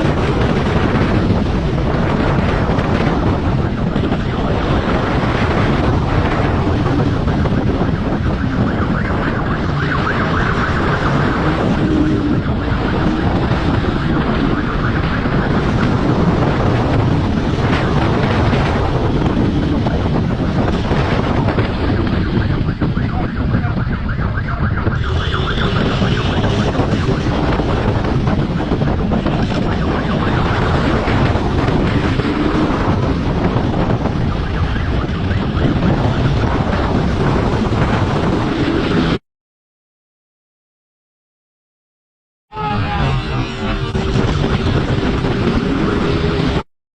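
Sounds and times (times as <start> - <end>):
vehicle noise: 0.0 - 39.2, 42.5 - 46.7
wind rumble on microphone: 0.0 - 39.2, 42.5 - 46.7.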